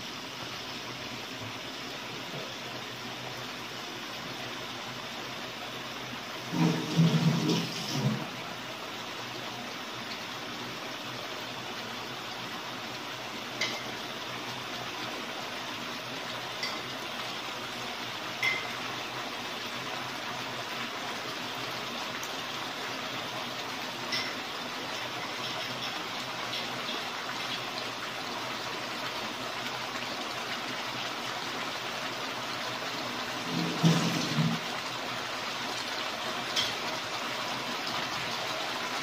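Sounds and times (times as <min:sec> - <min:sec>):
food sizzling in a wok: 0:00.0 - 0:39.0.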